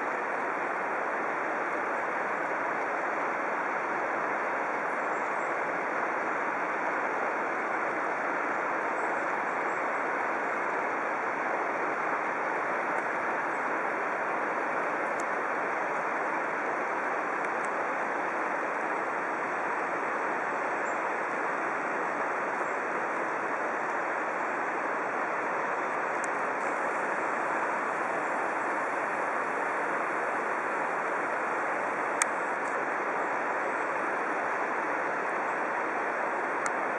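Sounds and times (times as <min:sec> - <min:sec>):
waterfall rushing: 0:05.6 - 0:36.9.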